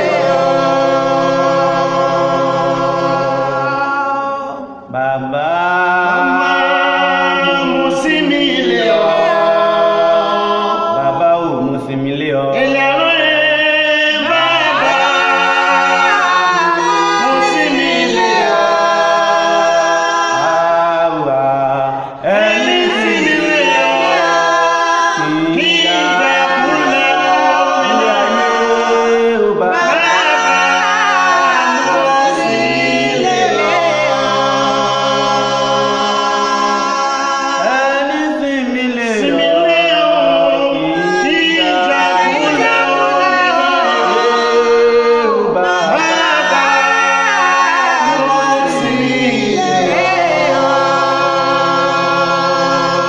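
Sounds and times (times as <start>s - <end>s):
group singing in harmony: 0.0s - 53.0s.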